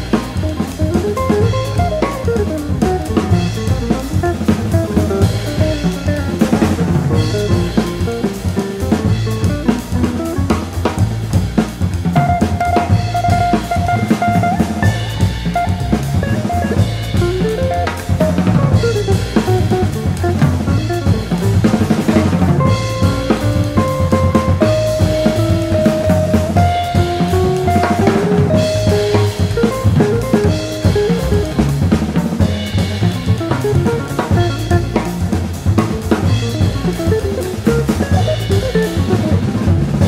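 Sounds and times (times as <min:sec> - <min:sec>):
double bass: 0:00.0 - 0:40.0
drum kit: 0:00.0 - 0:40.0
hollow-body guitar: 0:00.0 - 0:40.0.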